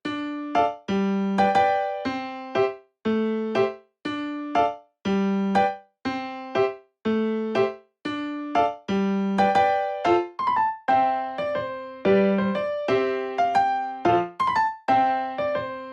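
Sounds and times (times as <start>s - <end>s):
bouncy keyboard tune: 0.0s - 15.9s.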